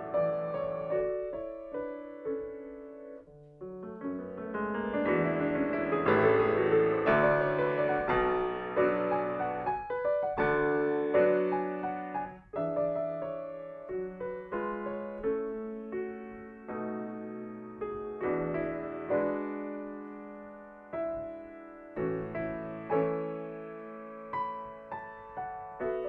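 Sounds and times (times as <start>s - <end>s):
solo grand piano: 0.0s - 26.0s.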